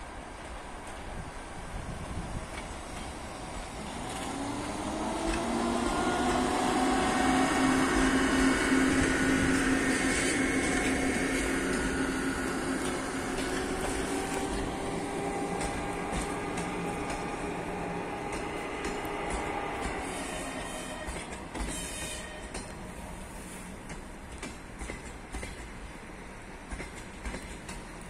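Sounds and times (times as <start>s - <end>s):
train coaches rolling past: 0.0s - 28.0s.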